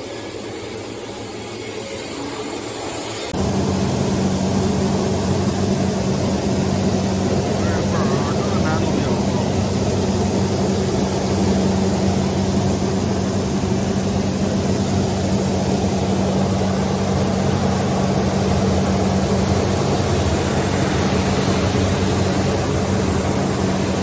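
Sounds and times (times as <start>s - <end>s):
motor hum: 3.4s - 24.0s.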